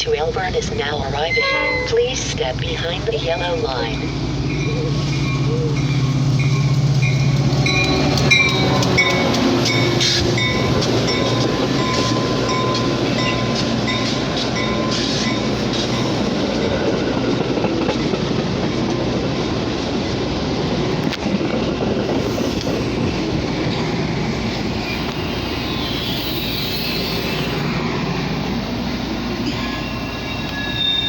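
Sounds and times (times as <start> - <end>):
train rumbling past: 0.0 - 31.0
train wheels clattering on rails: 3.8 - 31.0.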